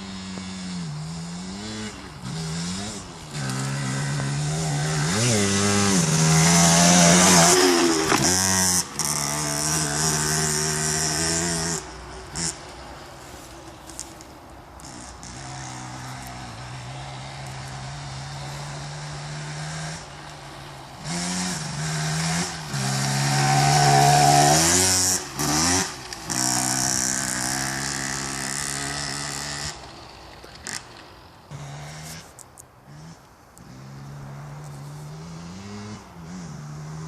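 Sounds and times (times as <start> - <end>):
motorcycle engine revving: 0.0 - 12.7, 14.8 - 30.9, 32.9 - 37.0.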